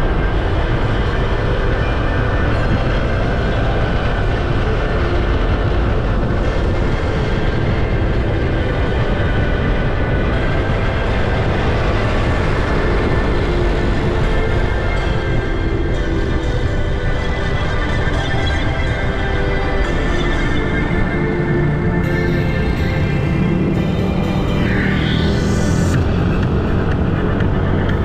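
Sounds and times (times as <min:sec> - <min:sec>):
road noise: 0:00.0 - 0:28.0
scooter engine riding: 0:00.0 - 0:28.0
wind on microphone: 0:00.0 - 0:28.0.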